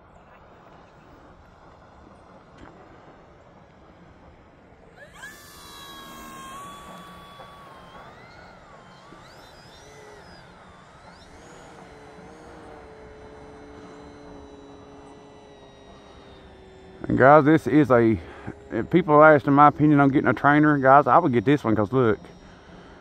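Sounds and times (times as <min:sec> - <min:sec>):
model plane motor whining: 0:01.4 - 0:23.0.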